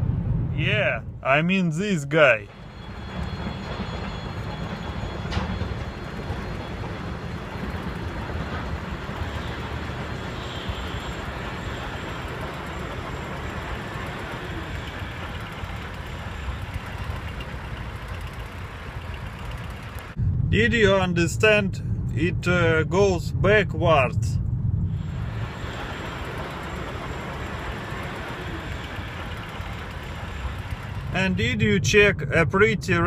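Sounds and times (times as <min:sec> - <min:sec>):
locomotive rumbling on track: 0:01.8 - 0:21.4, 0:25.0 - 0:32.8.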